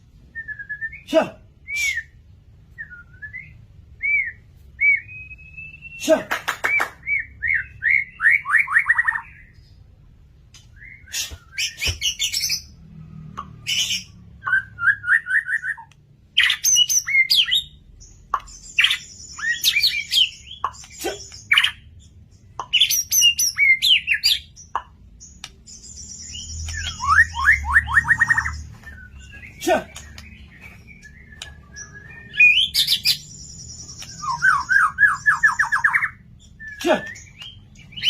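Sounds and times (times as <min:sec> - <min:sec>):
bird singing varied phrases: 0:00.0 - 0:38.0.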